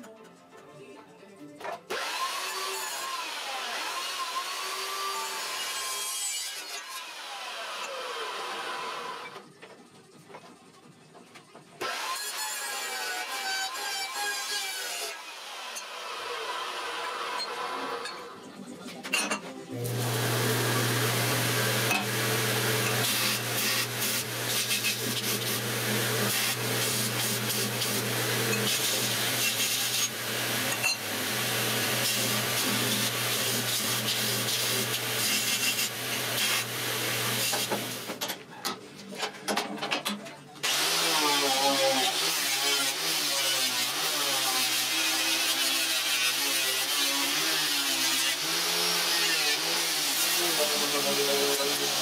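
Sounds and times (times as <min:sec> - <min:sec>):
loud shop tool noise: 0:01.6 - 0:10.4, 0:11.2 - 0:52.0
belt grinder grinding steel: 0:01.9 - 0:09.4, 0:11.8 - 0:18.4, 0:19.2 - 0:38.3, 0:40.6 - 0:52.0.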